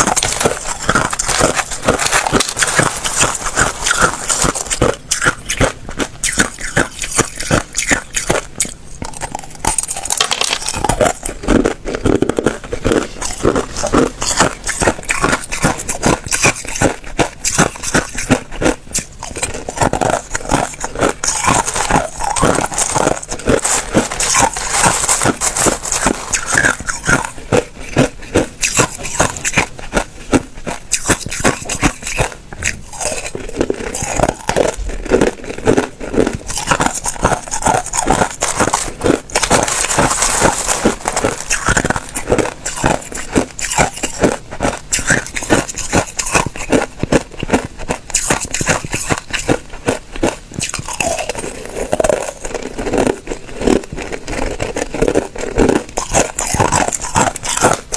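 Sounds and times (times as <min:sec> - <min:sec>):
ice cubes crunching in mouth: 0:00.0 - 0:57.9.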